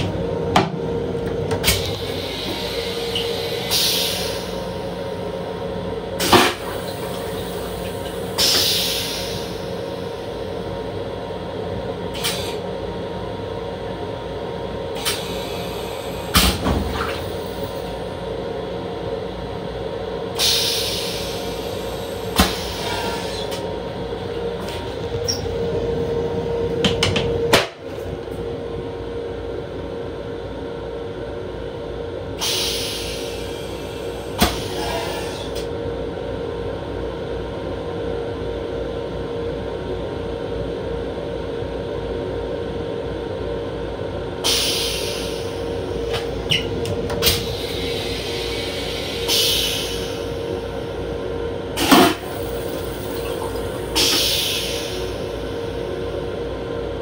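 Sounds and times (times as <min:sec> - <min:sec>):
electric railcar hum: 0:00.0 - 0:57.0.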